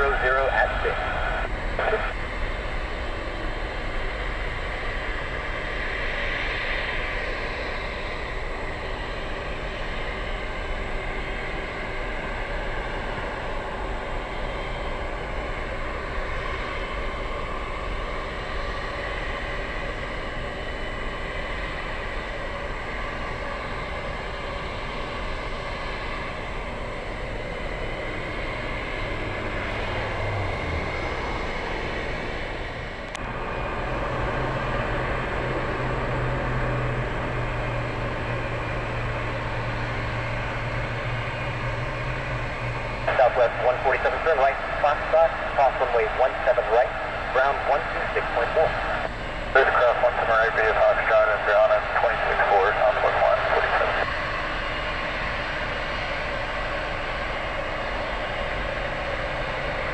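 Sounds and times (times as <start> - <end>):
jet engines of airliner taking off: 0.0 - 59.9
low engine drone: 0.0 - 59.9.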